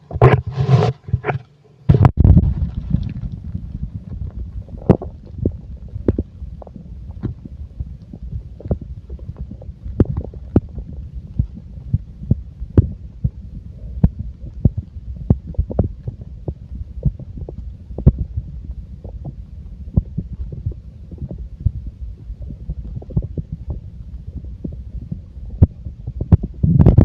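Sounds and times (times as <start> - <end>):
stomach gurgling: 0.0 - 27.0.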